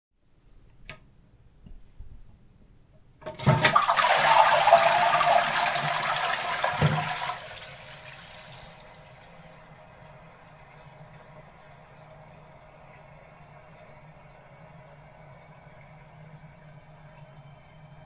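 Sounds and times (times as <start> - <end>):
toilet flushing: 3.2 - 18.0.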